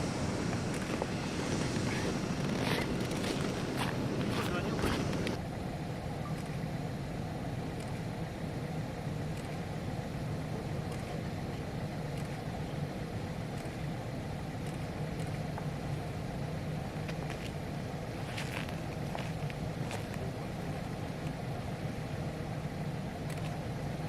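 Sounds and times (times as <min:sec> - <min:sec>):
engines rumbling at low power: 0:00.0 - 0:24.0.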